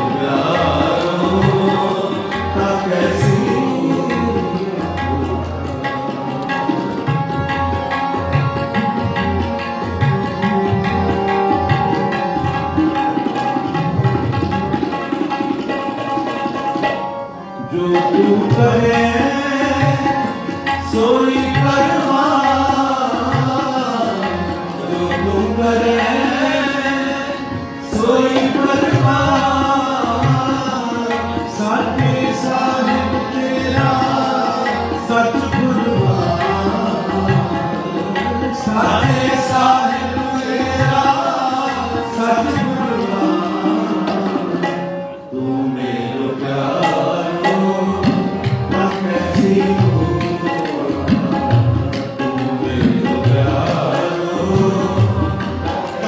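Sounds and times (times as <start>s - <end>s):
voices singing: 0.0s - 7.8s, 17.8s - 56.0s
harmoniums playing: 0.0s - 56.0s
tabla beat: 0.0s - 56.0s.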